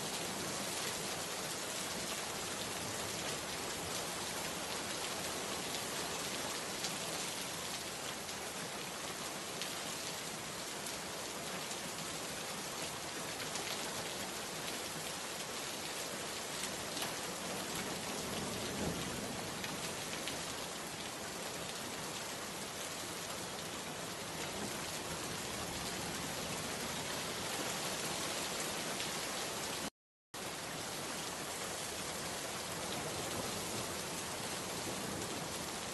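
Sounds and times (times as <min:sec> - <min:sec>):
rain-like hiss: 0:00.0 - 0:35.9.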